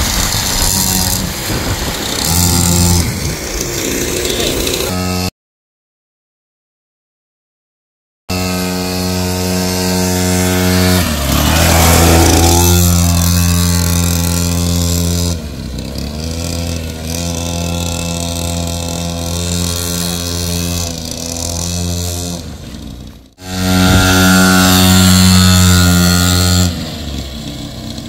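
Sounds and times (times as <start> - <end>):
two-stroke dirt bike engine: 0.0 - 5.3, 8.3 - 28.0.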